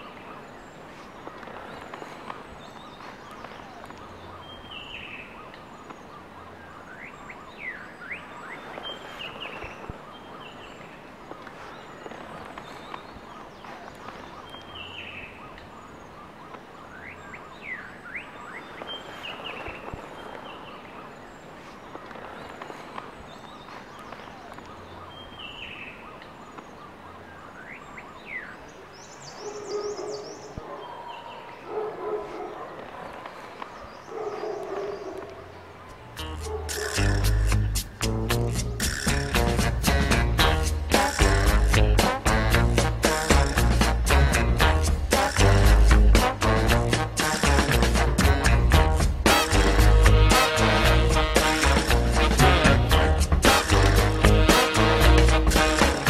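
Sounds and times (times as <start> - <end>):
forest birds calling: 0.0 - 56.0
steady background hiss: 0.0 - 56.0.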